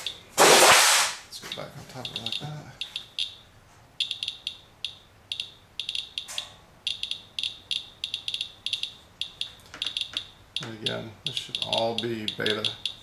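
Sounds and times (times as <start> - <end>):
geiger counter clicking: 1.5 - 3.4, 4.0 - 13.0.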